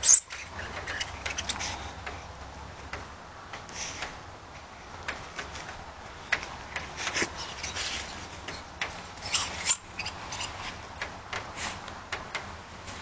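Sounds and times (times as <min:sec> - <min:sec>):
small clicks and scrapes: 0:00.0 - 0:04.2, 0:05.0 - 0:13.0.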